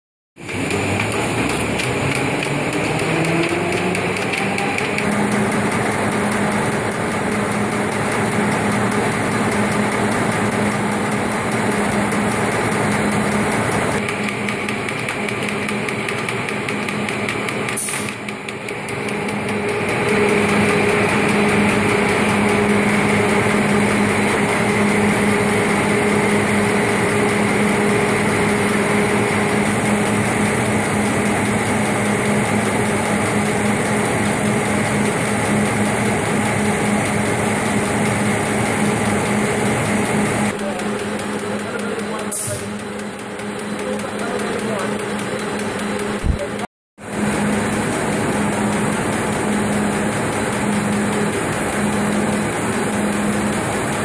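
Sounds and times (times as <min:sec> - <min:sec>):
printing press machinery whirring: 0:00.4 - 0:54.0.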